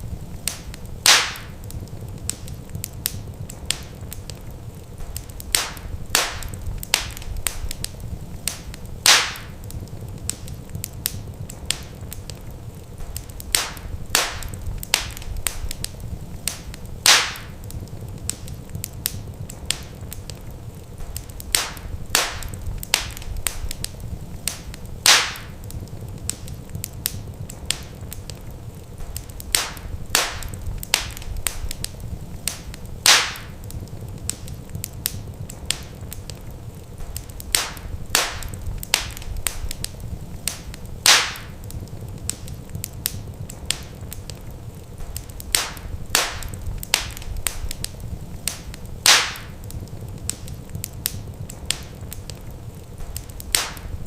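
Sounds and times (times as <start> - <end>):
loud fire pops: 0.0 - 54.0
low steady rumble: 0.0 - 54.0
wood fire crackling: 0.0 - 54.0.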